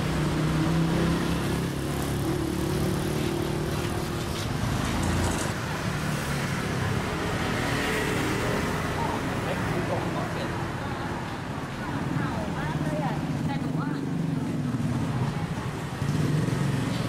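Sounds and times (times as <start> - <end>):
street traffic: 0.0 - 17.0
vehicle engine humming nearby: 0.0 - 17.0.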